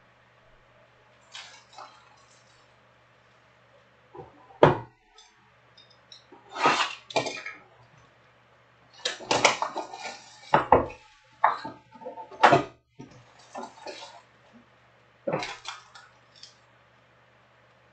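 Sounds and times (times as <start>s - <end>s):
faint low hum: 0.0s - 17.9s.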